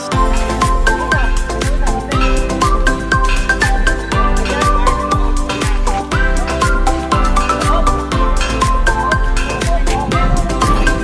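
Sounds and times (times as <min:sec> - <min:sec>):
electronic dance music: 0:00.0 - 0:11.0
punchy kick drum: 0:00.1 - 0:11.0.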